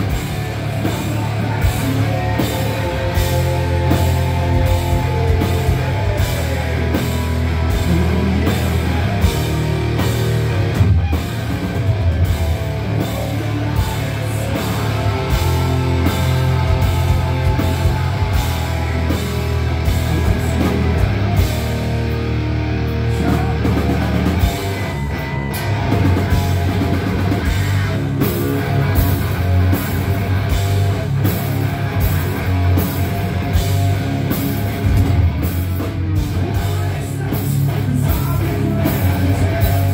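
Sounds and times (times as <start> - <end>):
rock band playing loud: 0.0 - 39.9.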